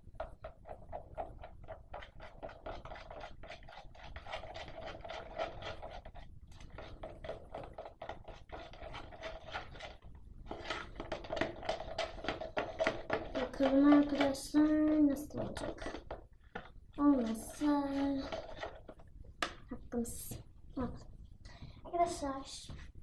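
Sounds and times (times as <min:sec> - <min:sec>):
slime stirred in a bowl: 0:00.0 - 0:23.0.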